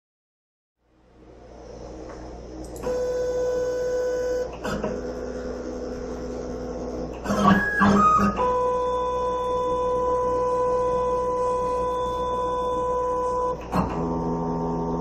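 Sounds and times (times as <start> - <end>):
stepper motors whining: 2.8 - 15.0.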